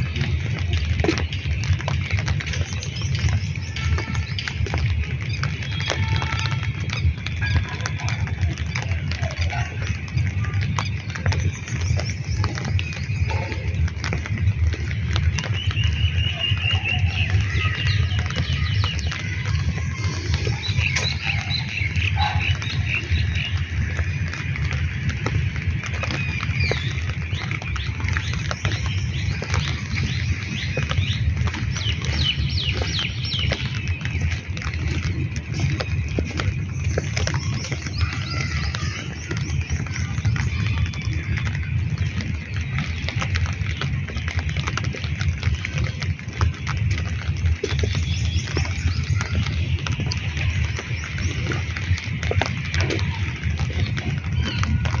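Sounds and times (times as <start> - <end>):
birds chirping: 0.0 - 55.0
raindrops ticking: 0.0 - 55.0.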